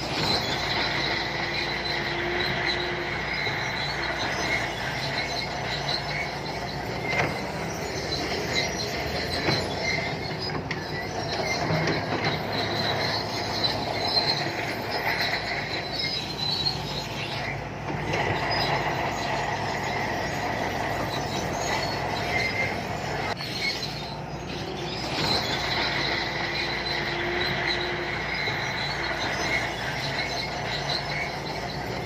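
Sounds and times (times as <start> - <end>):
bulldozer diesel engine running: 0.0 - 32.0
steel tracks squealing and clanking: 0.0 - 32.0.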